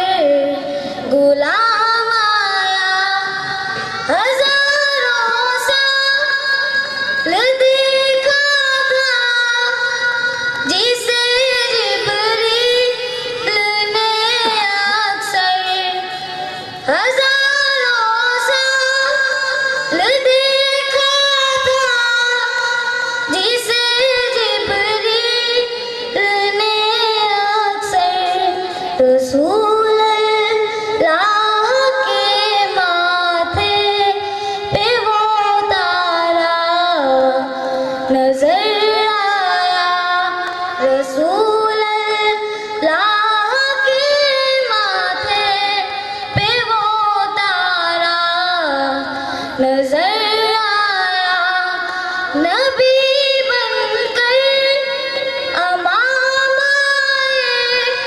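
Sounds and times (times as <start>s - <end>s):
boy singing devotional chant: 0.0s - 58.0s.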